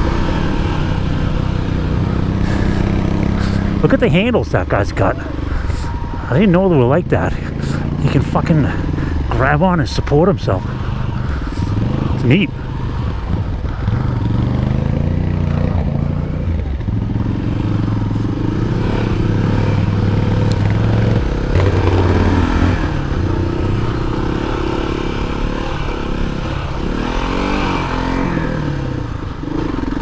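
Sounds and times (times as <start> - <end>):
motorcycle engine running under load: 0.0 - 30.0.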